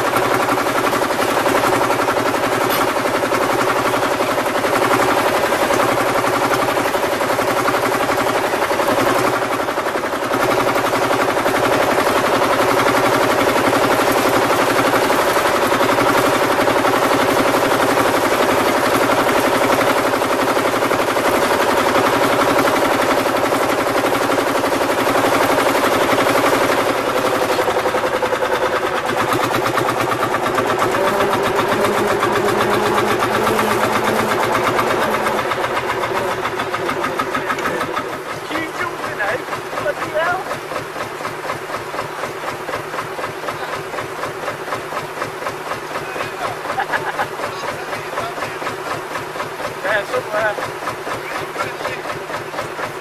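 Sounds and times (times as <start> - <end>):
tractor diesel engine popping: 0.0 - 53.0.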